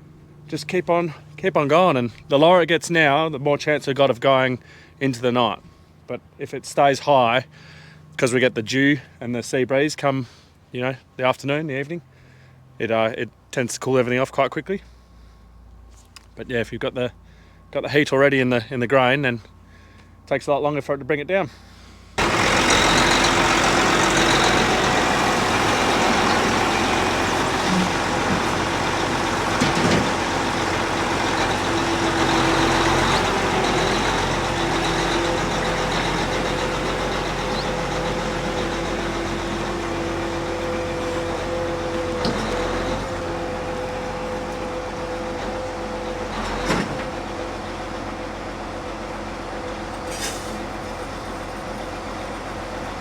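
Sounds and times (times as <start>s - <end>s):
heavy vehicle engine humming: 0.0s - 20.3s, 21.0s - 53.0s.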